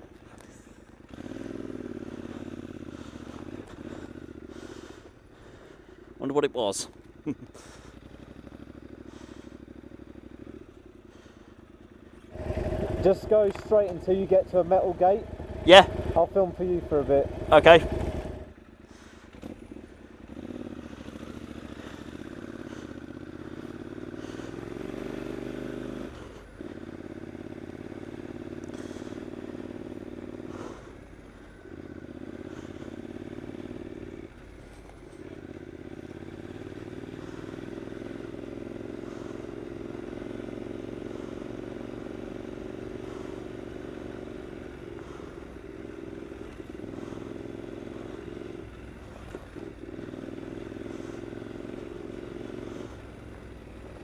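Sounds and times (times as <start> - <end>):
light clatter over rough ground: 0.0 - 9.5, 10.1 - 54.0
motorcycle engine running: 0.0 - 54.0.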